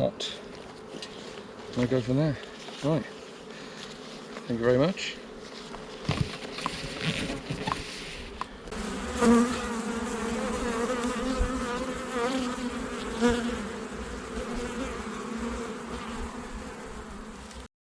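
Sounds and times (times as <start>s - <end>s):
honeybees buzzing: 0.0s - 17.7s.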